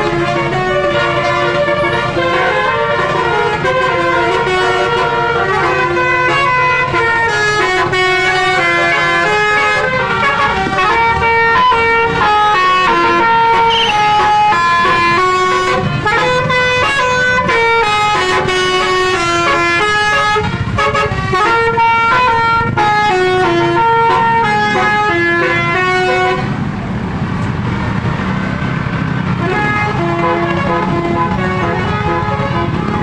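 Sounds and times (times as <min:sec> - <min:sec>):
musical air horn tune: 0:00.0 - 0:26.6, 0:29.4 - 0:33.0
bus engine running: 0:00.0 - 0:33.0.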